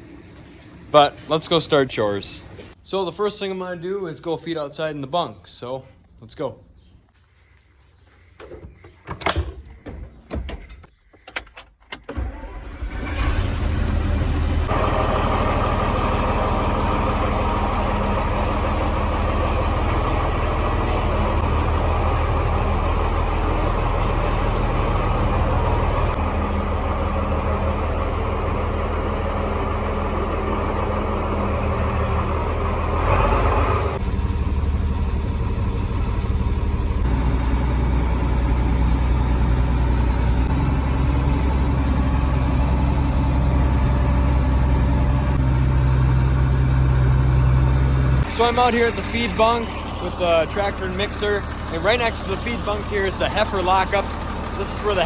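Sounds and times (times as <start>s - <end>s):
tractor engine running: 9.8s - 55.0s.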